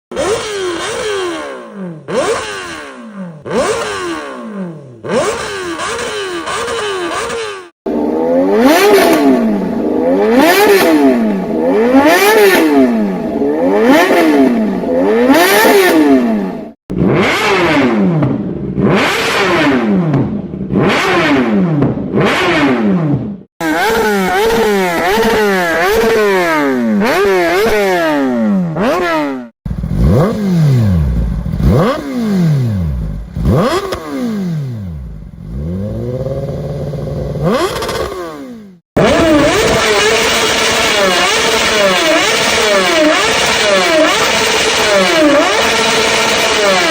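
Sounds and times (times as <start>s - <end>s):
motorcycle engine revving: 0.1s - 46.9s.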